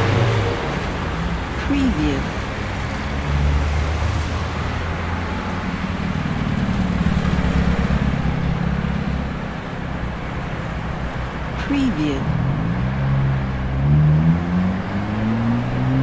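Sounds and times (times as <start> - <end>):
traffic engines and tyre noise: 0.0 - 16.0.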